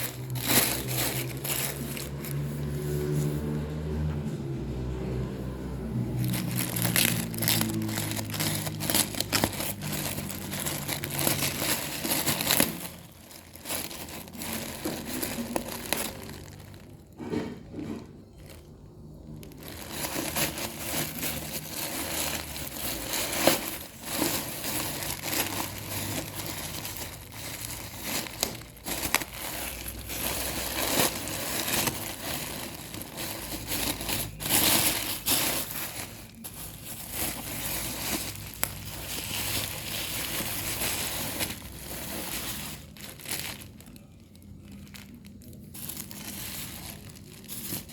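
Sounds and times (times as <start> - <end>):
packaging crinkling: 0.0 - 3.2, 5.8 - 47.9.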